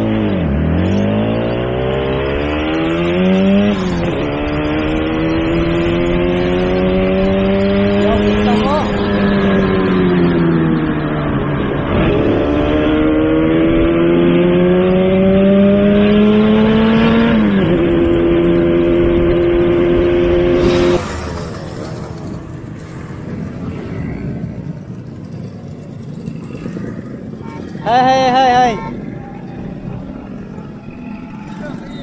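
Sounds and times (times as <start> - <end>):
two-stroke motorcycle engine accelerating: 0.0 - 32.0.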